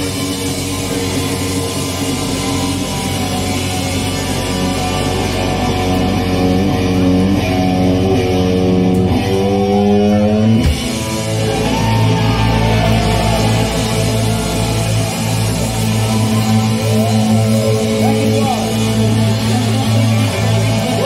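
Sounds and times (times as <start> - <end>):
hard rock band playing: 0.0 - 21.0.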